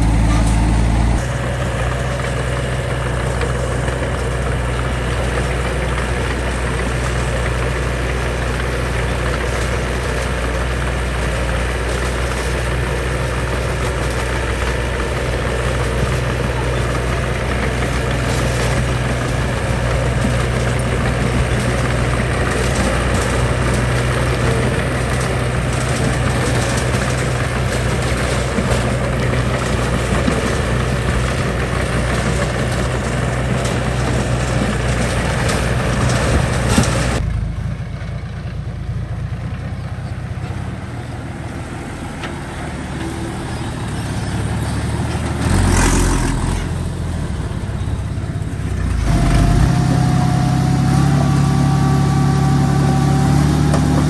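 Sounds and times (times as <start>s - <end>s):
rough noisy clatter: 0.0s - 38.7s, 41.5s - 54.0s
construction machine engine drone: 0.0s - 54.0s.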